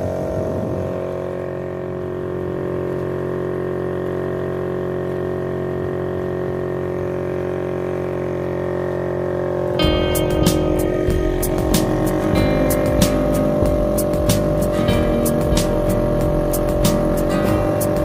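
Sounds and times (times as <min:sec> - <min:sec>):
small boat engine running: 0:00.0 - 0:18.0.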